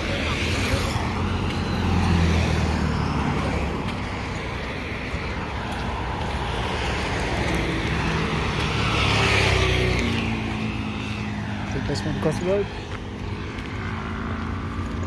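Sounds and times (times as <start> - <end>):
cars driving past: 0.0 - 15.0.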